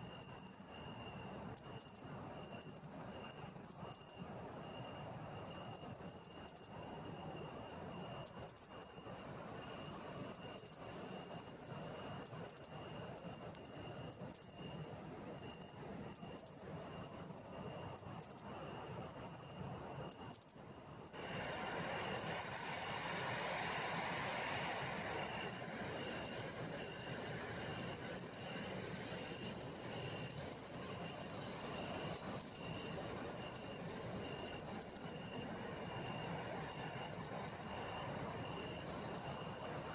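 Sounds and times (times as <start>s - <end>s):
cricket chirping: 0.0s - 39.9s
faint background hiss: 0.0s - 39.9s.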